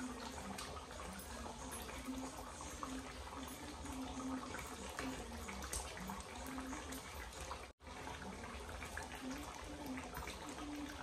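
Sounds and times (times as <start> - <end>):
sauce bubbling and popping: 0.0 - 11.0.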